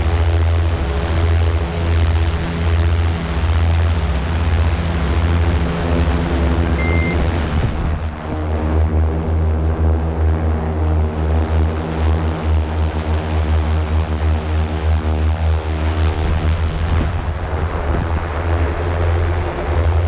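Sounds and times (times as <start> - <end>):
drone propellers humming: 0.0 - 20.0.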